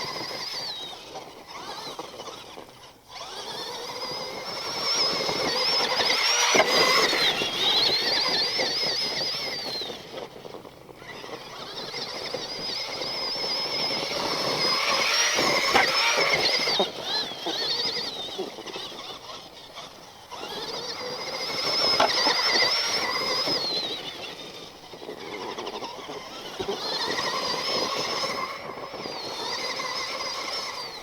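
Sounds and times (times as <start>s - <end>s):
toy truck electric motor whine: 0.0s - 31.0s.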